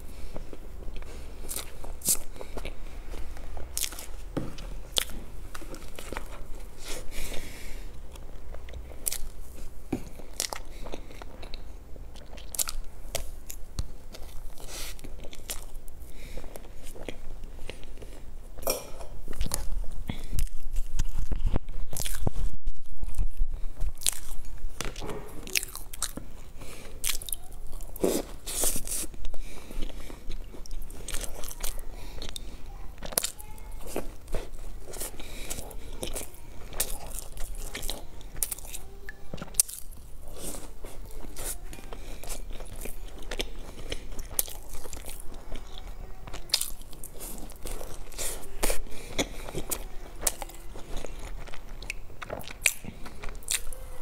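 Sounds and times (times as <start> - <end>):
chewing toasted bread: 0.0 - 54.0.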